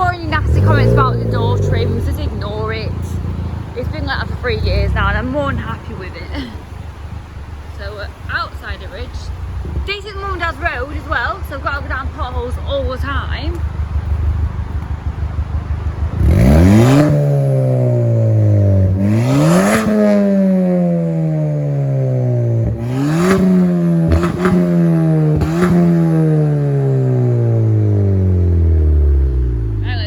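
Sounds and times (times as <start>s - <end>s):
car engine revving: 0.0s - 30.0s
exhaust cracks: 0.0s - 30.0s.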